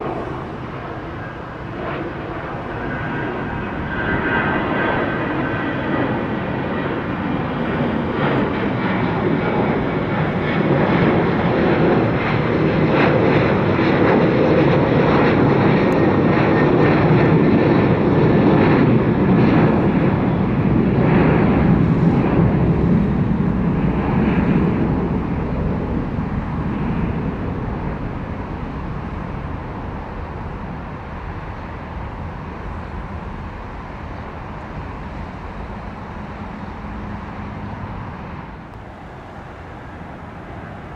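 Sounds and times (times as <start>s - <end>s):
jet engines at takeoff power: 0.0s - 40.9s.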